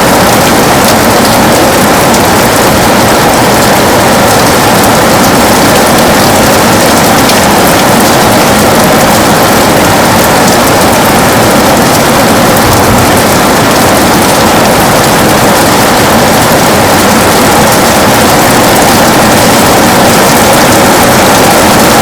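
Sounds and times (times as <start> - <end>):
heavy rain on a window: 0.0 - 22.0.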